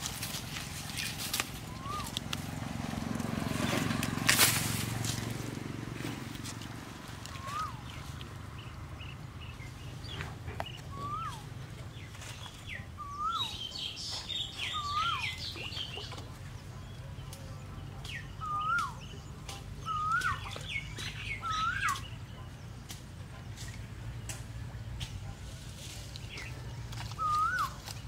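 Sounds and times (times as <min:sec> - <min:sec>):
birds chirping high: 0:00.0 - 0:28.0.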